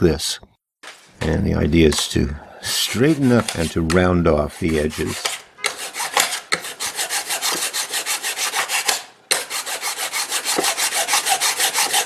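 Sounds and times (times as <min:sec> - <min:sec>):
hand file rasping on board: 0:01.9 - 0:12.0.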